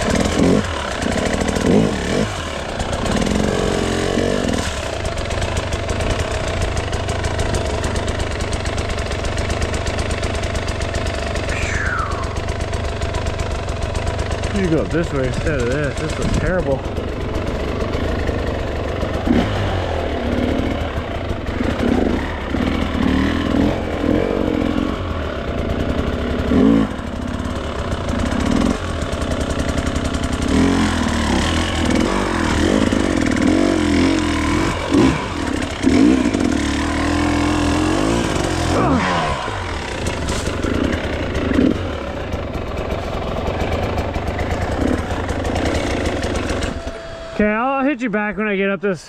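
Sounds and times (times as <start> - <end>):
dirt bike engine revving: 0.0 - 48.5.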